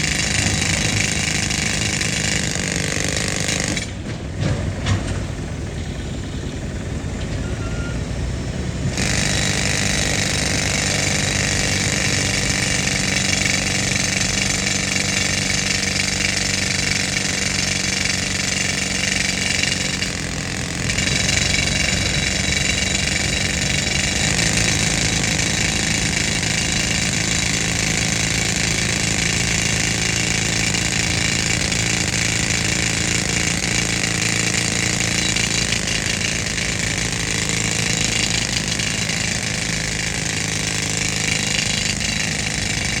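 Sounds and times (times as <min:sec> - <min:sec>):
pneumatic rock drill hammering: 0:00.0 - 0:43.0
air compressor engine hum: 0:05.5 - 0:43.0.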